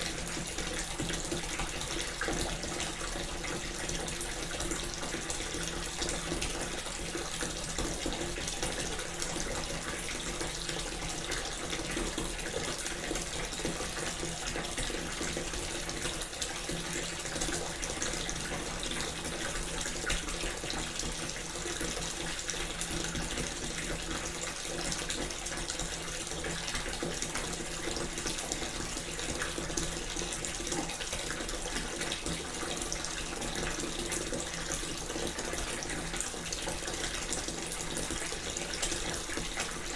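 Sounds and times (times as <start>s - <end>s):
water pouring into bathtub: 0.0s - 39.9s.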